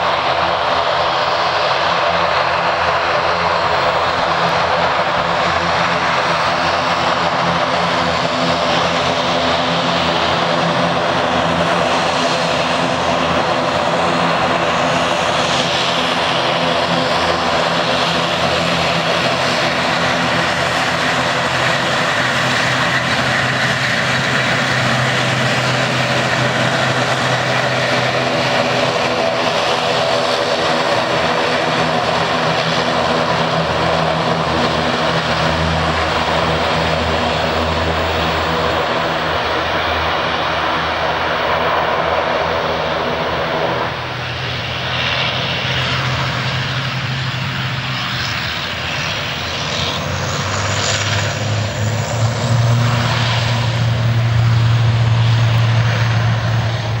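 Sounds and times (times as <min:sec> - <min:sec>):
propeller drone with high whine: 0:00.0 - 0:57.0.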